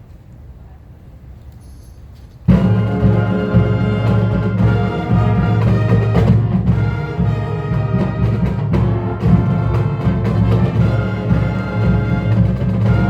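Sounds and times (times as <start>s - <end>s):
drum strikes: 2.5s - 13.0s
marching band playing: 2.5s - 13.0s.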